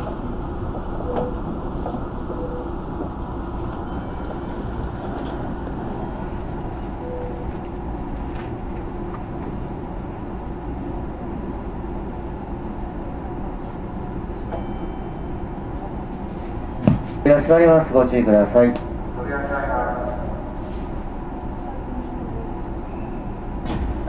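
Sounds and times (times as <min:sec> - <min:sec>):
electric train humming: 0:00.0 - 0:24.0.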